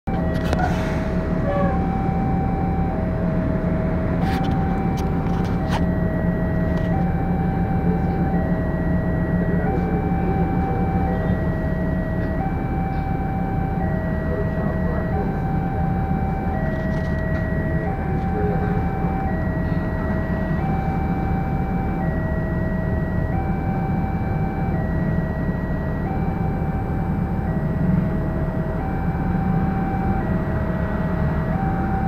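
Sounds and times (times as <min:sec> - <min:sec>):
level crossing two-tone alarm: 0:01.4 - 0:32.0.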